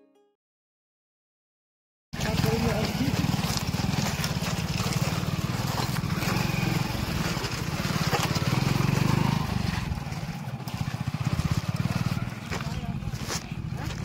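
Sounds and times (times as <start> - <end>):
motorcycle engine at low speed: 2.2 - 14.0.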